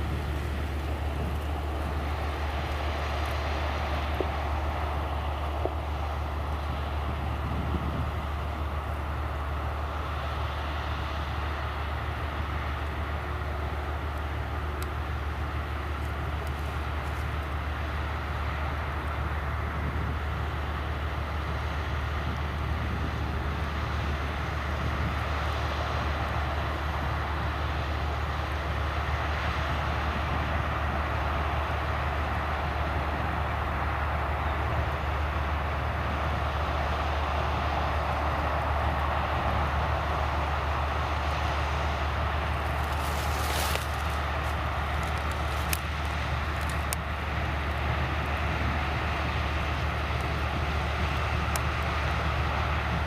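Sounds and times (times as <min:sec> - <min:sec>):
heavy farm machinery droning: 0:00.0 - 0:53.0.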